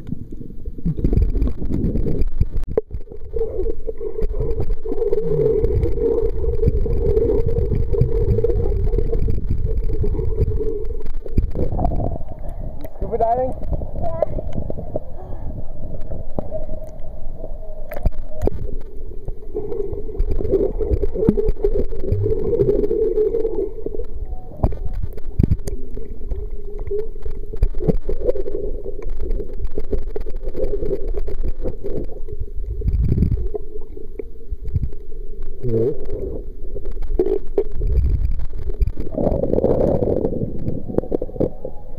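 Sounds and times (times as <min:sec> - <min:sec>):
muffled underwater gurgling: 0:00.0 - 0:41.9.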